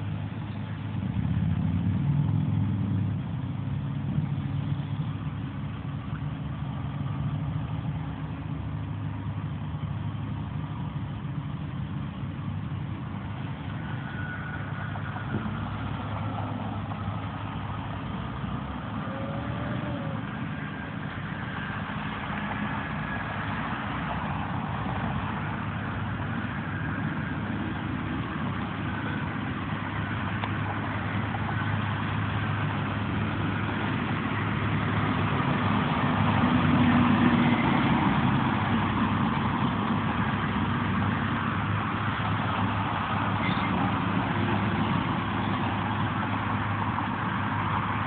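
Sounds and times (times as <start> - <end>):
road noise: 0.0 - 48.0
truck engines humming: 0.0 - 48.0.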